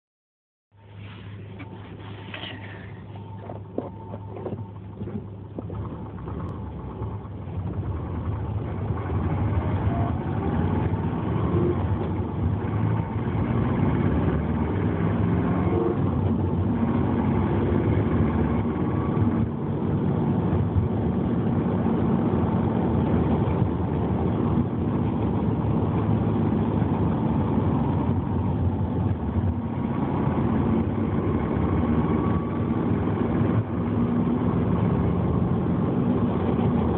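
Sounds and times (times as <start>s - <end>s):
car engine running: 0.8s - 36.9s
faint whining tones: 0.8s - 36.9s.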